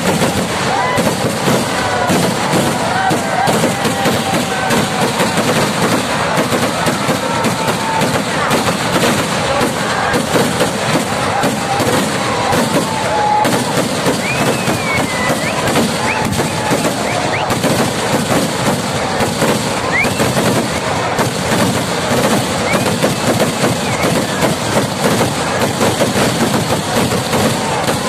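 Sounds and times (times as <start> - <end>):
firework whistles: 0.0 - 28.0
fireworks barrage crackling: 0.0 - 28.0.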